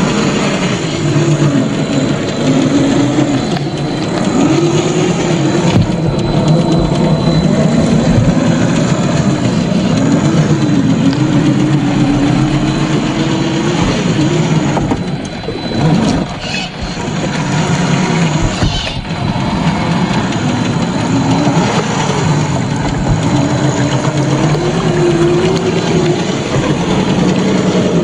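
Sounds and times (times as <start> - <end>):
toy truck motor whirring: 0.0 - 28.0.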